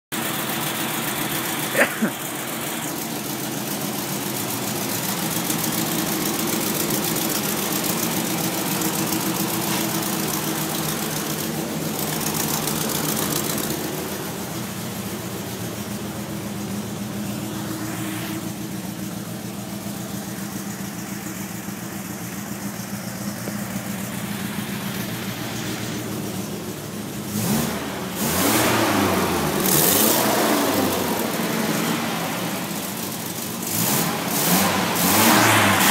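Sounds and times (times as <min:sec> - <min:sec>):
car engine idling and revving: 0:00.1 - 0:35.9.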